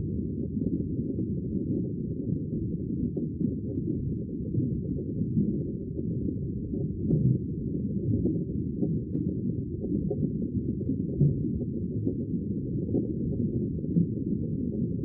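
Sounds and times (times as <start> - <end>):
muffled sea water rumbling: 0.0 - 15.0.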